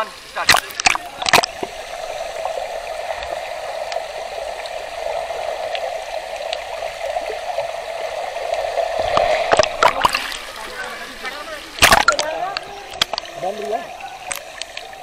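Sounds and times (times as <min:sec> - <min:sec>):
underwater water rush: 0:00.0 - 0:15.0
steady hum: 0:00.1 - 0:15.0.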